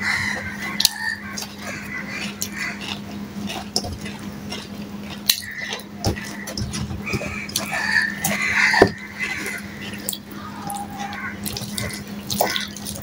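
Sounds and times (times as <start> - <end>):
steady low hum: 0.0 - 13.0
chewing and mouth smacks: 0.6 - 13.0.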